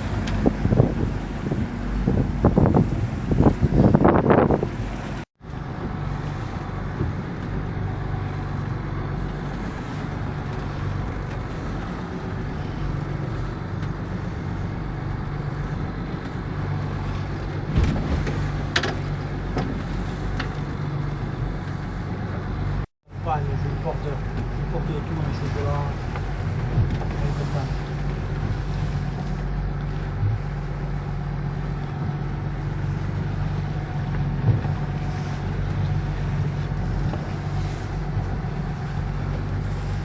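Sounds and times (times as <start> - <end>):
boat engine droning: 0.0 - 40.0
wind and water noise: 0.0 - 40.0.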